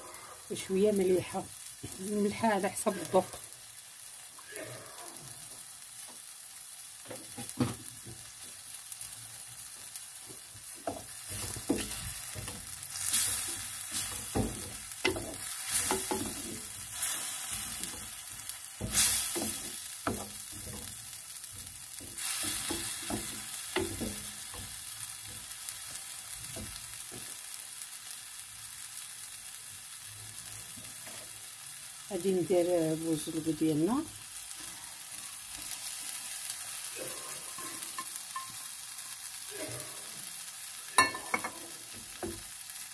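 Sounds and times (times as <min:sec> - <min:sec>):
sauce sizzling in oil: 0:00.0 - 0:42.9.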